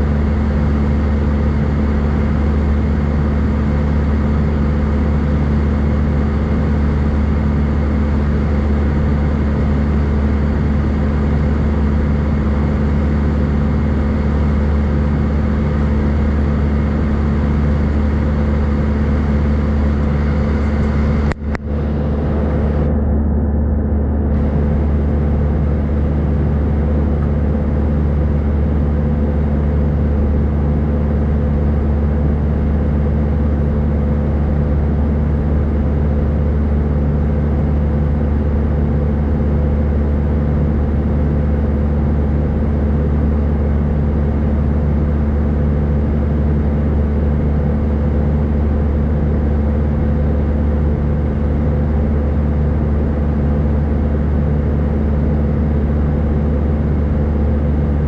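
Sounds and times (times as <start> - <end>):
jet engine drone: 0.0 - 58.0
low hum: 0.0 - 58.0.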